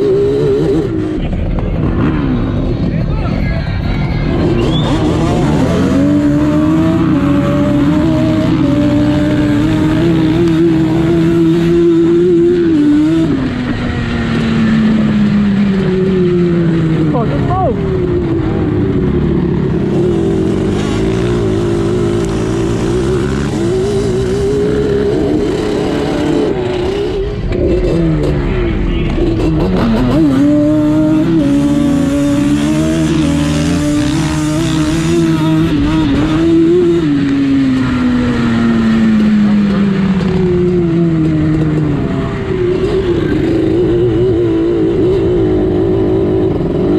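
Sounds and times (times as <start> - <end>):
quad engine revving: 0.0 - 46.9.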